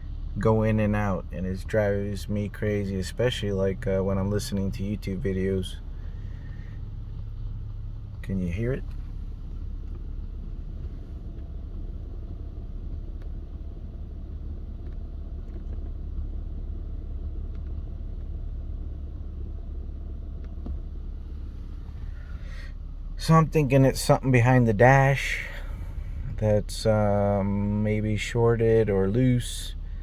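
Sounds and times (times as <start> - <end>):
low cabin rumble: 0.0 - 30.0.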